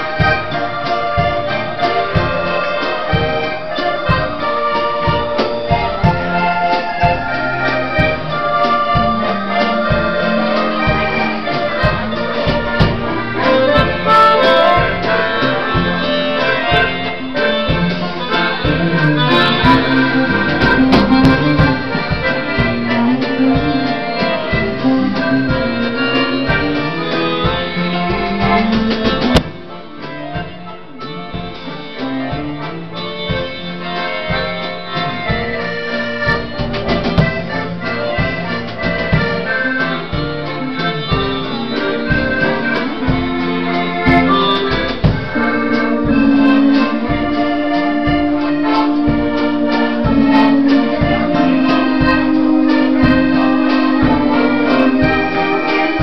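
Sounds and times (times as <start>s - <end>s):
accordion music: 0.0s - 56.0s.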